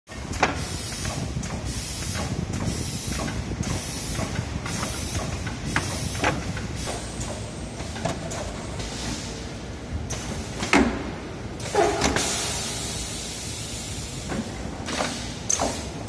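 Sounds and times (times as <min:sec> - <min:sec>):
factory machinery noise: 0:00.1 - 0:16.0.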